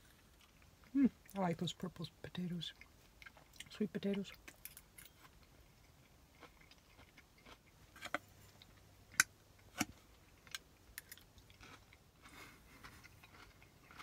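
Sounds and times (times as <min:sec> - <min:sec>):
person chewing food: 0:00.0 - 0:01.4, 0:02.7 - 0:14.0.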